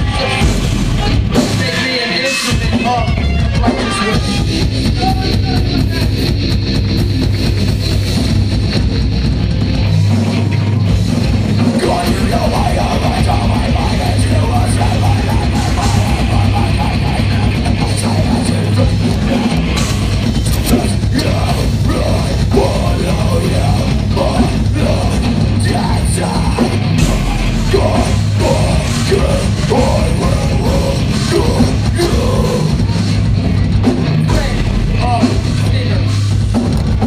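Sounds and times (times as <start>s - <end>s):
metal band playing live: 0.0s - 37.0s.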